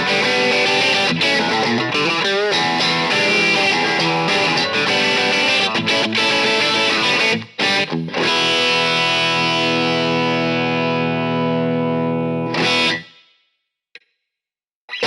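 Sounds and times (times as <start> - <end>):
overdriven electric guitar chords: 0.0 - 13.2.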